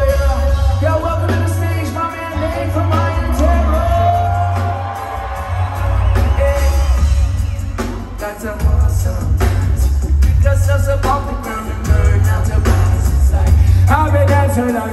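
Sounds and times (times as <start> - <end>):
heavy bass line: 0.0 - 14.9
live reggae band playing: 0.0 - 14.9
person singing: 0.0 - 14.9.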